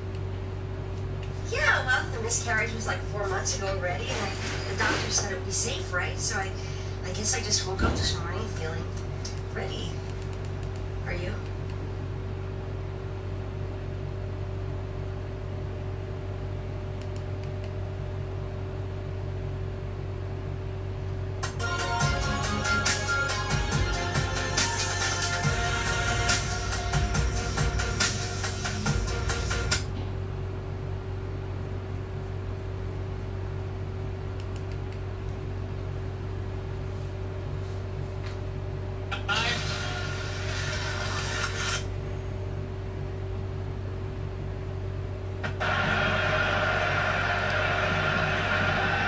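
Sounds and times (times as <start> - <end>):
electrical hum and hiss: 0.0 - 49.0.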